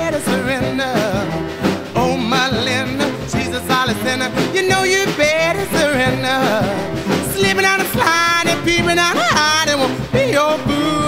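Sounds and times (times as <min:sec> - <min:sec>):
person singing over instruments: 0:00.0 - 0:11.0.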